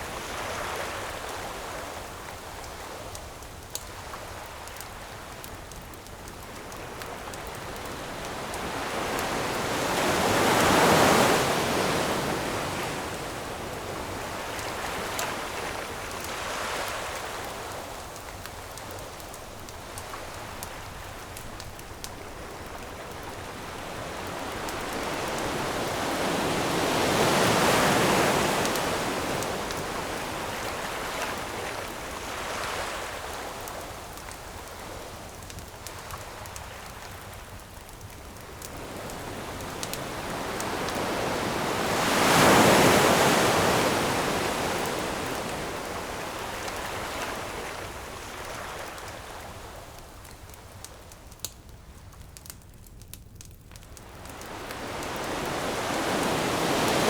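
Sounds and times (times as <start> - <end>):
campfire crackling: 0.0 - 57.0
ocean waves breaking on beach: 6.2 - 50.0, 54.0 - 57.0.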